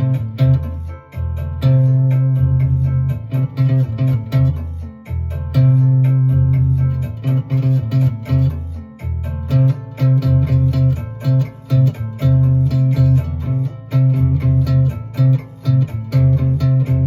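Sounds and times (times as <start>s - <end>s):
backing track with bass and beat: 0.0s - 17.0s
improvised lead melody: 0.0s - 17.0s.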